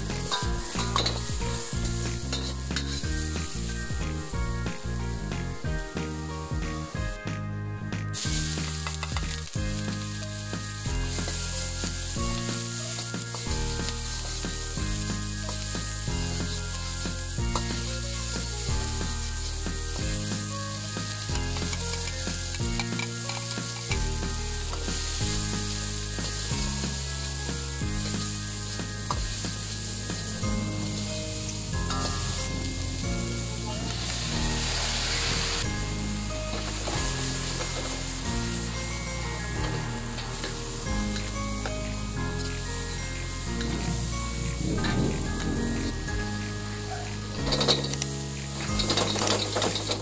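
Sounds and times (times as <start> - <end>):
onions sizzling in hot oil: 0.0 - 7.1, 8.1 - 50.0
background music with bass line: 0.0 - 50.0.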